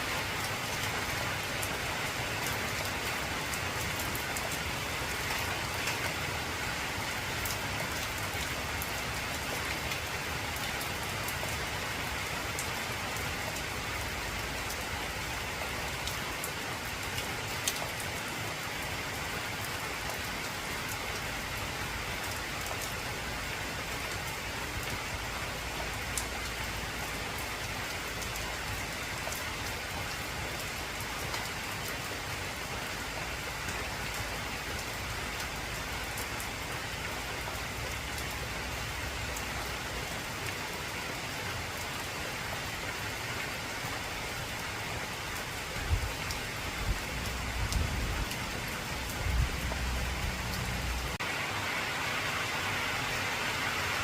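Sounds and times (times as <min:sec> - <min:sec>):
heavy rain on a tin roof: 0:00.0 - 0:54.0
rain drops ticking on metal: 0:00.0 - 0:54.0.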